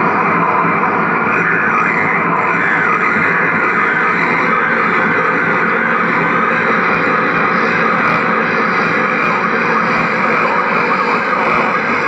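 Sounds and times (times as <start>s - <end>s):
distorted guitar noise: 0.0s - 12.0s.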